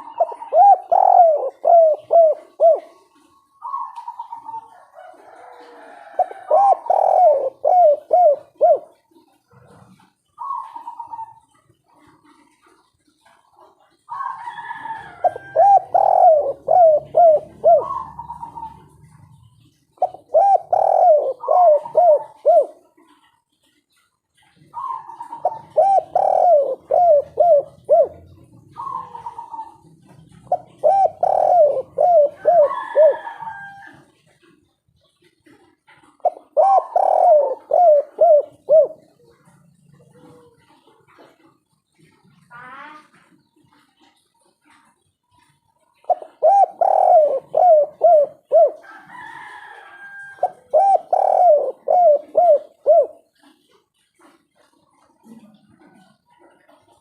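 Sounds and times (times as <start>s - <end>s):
dove cooing: 0.0s - 57.0s
faint steady background sound: 0.0s - 57.0s.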